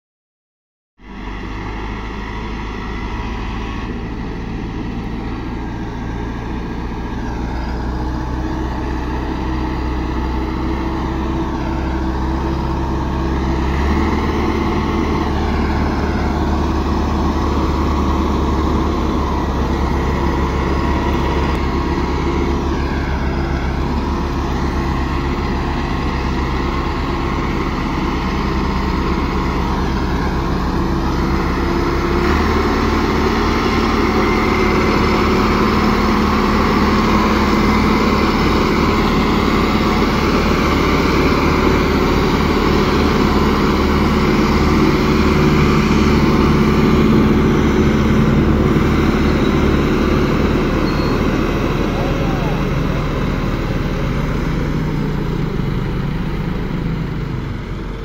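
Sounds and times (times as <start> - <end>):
tractor diesel engine under load: 1.0 - 58.0.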